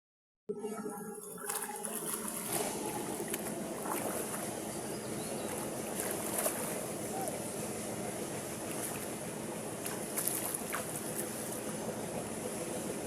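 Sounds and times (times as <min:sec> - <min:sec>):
moving water: 0:00.6 - 0:13.0.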